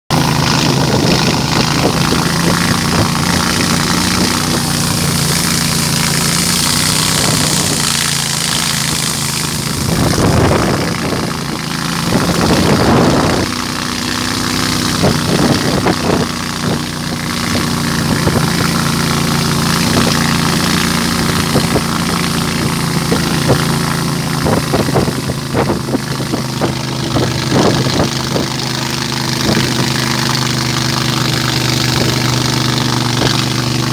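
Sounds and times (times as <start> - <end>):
boat engine running: 0.0 - 33.9
rushing water: 0.1 - 33.9
wind hiss: 0.2 - 33.9.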